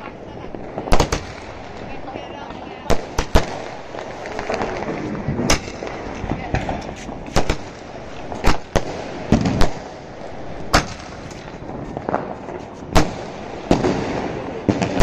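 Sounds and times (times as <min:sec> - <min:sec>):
fireworks bangs: 0:00.0 - 0:15.0
fireworks crackle and hiss: 0:00.0 - 0:15.0.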